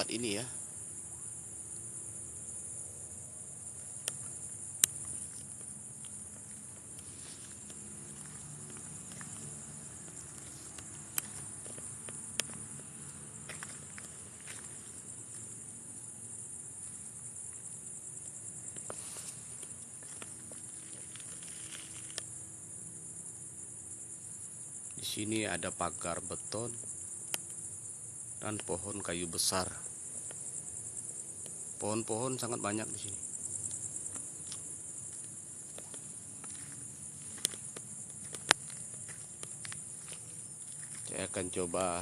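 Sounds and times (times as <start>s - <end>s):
night insects chorus: 0.0s - 42.0s.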